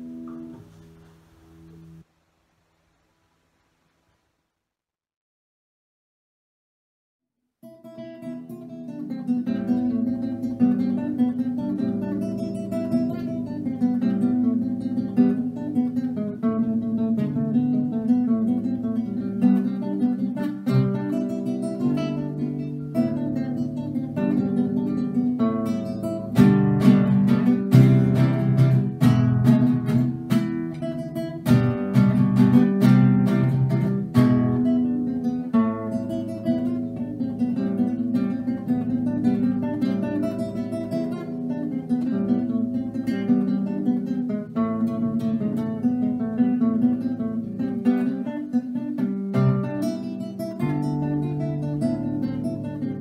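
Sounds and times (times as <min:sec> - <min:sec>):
classical guitar playing: 0:00.0 - 0:02.1, 0:07.6 - 0:53.0.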